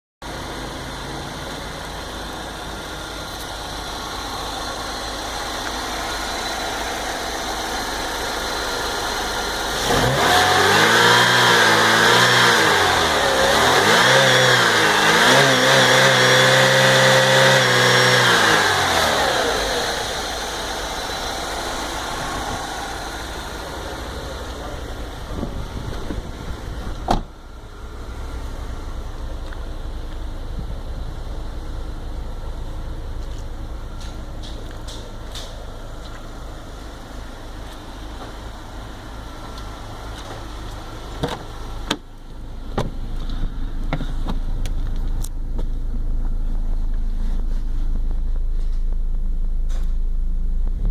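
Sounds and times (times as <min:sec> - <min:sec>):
car engine idling and revving: 0:00.2 - 0:50.9.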